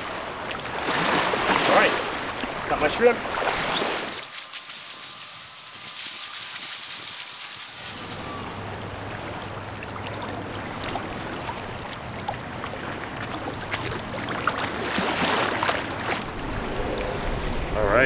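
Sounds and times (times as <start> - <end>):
seawater sloshing around wader: 0.0 - 17.8
small splashes: 0.8 - 16.4.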